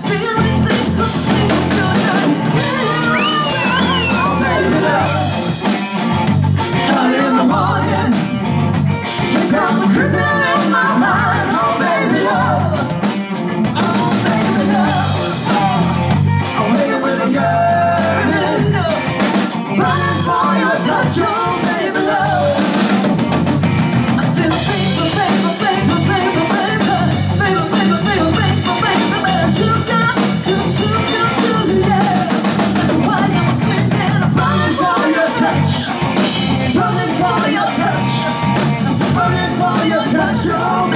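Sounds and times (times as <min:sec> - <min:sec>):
woman singing lead: 0:00.0 - 0:08.4, 0:09.0 - 0:23.0, 0:24.1 - 0:40.9
drum kit: 0:00.0 - 0:40.9
electric bass: 0:00.0 - 0:40.9
electric guitar: 0:00.0 - 0:40.9.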